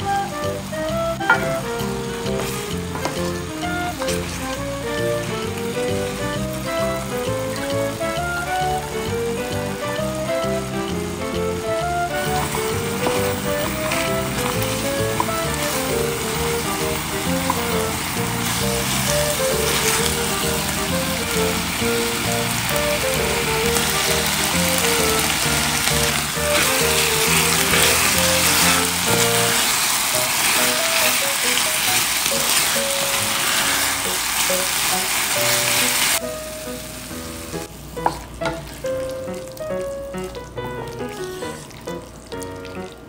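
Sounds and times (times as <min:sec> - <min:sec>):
background music: 0:00.0 - 0:43.0
food sizzling in a pan: 0:00.0 - 0:43.0
stirring in a pan: 0:00.3 - 0:36.2, 0:37.6 - 0:43.0.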